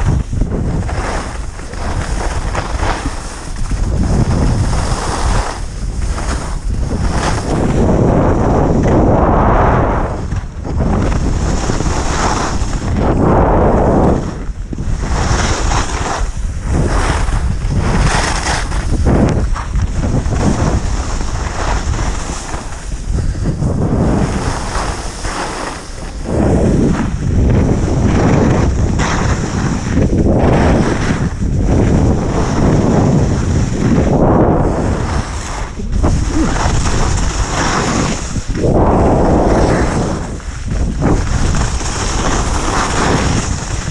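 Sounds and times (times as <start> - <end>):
skis scraping on snow: 0.0 - 43.9
wind buffeting microphone: 0.0 - 43.9.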